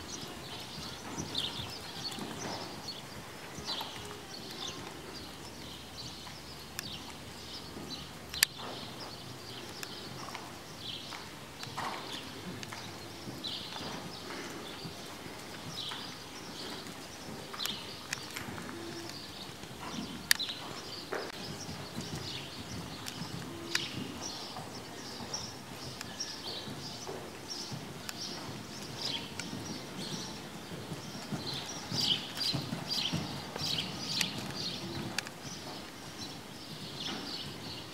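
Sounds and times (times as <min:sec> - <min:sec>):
muffled hoofbeats on sand: 0:00.0 - 0:37.9.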